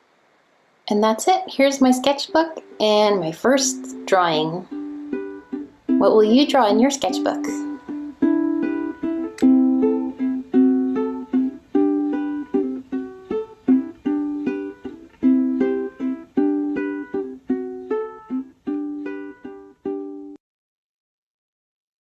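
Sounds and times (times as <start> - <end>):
plucked strings music: 2.5 - 20.4.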